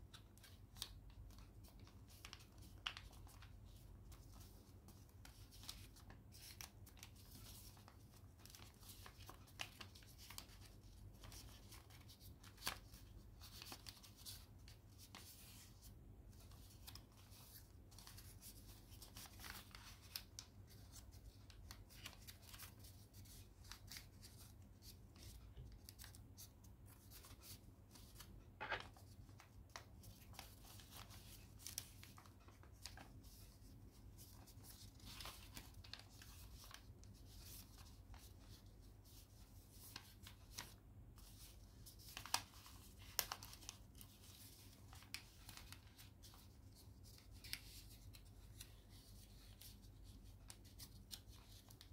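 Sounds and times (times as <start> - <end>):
paper being folded and creased: 0.1 - 51.9.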